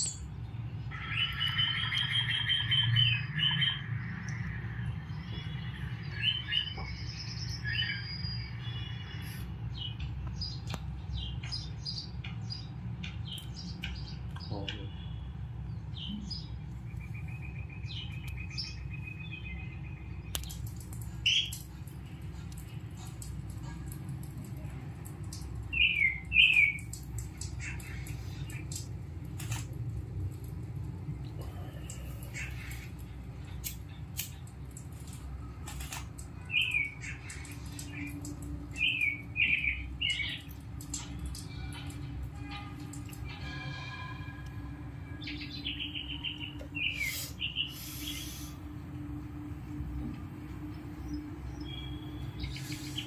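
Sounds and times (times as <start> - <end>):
small birds chirping: 0.0 - 43.4, 45.2 - 48.6, 50.6 - 53.0.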